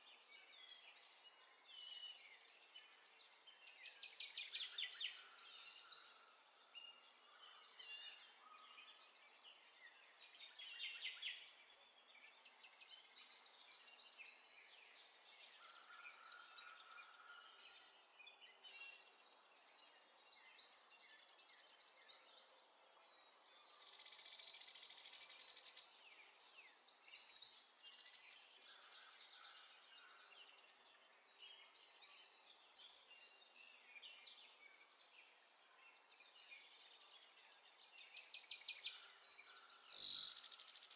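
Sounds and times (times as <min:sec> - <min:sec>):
birds chirping and trilling: 0:01.0 - 0:40.9.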